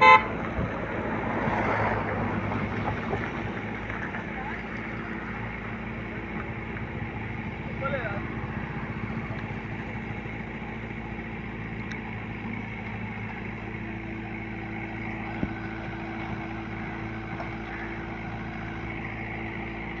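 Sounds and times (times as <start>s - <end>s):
rice-cutting machine engine running: 0.0s - 20.0s.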